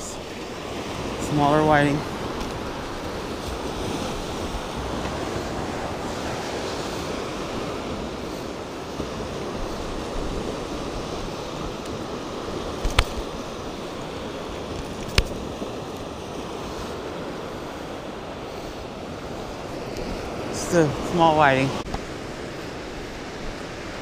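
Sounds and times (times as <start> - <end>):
ocean surf washing on beach: 0.0 - 24.0
wind on microphone: 0.0 - 24.0.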